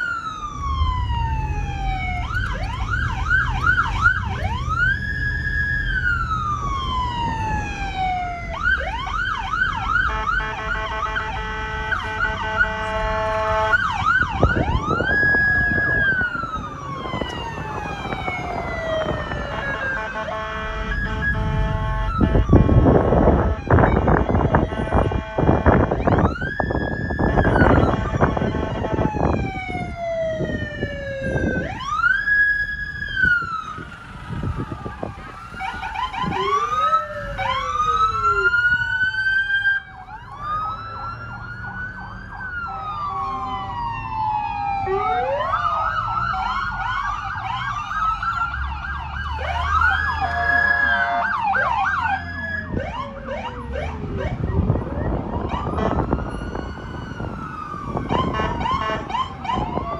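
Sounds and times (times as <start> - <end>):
police sirens wailing and yelping: 0.0 - 59.9.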